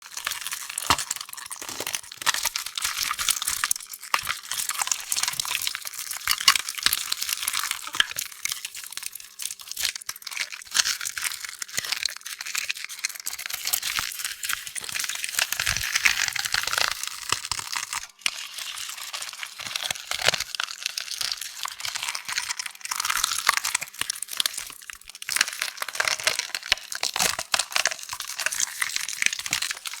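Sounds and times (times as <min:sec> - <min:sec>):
crumbling crackles and crunches: 0:00.0 - 0:09.2, 0:09.8 - 0:30.0.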